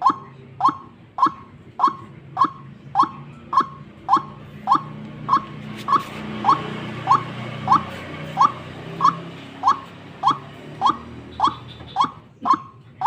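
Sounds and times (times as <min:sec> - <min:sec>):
bird lure call: 0:00.0 - 0:13.0.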